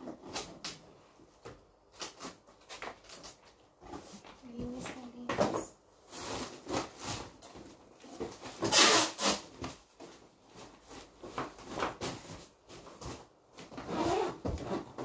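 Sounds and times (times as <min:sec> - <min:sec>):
rustling packing into cardboard box: 0:00.0 - 0:15.0.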